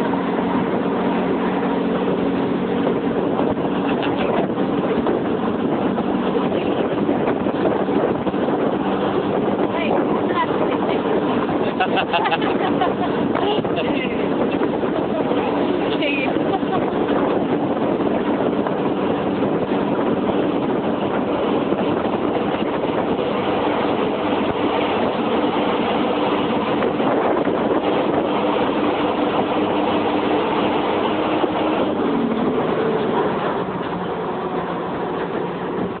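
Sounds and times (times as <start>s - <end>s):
road and wind rush: 0.0s - 36.0s.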